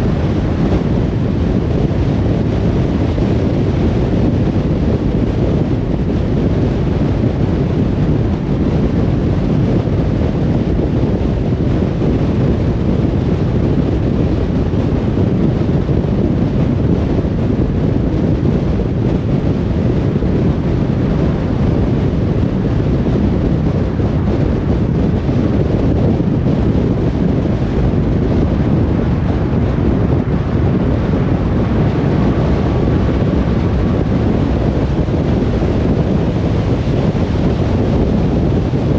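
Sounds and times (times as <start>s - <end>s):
wind noise: 0.0s - 38.9s.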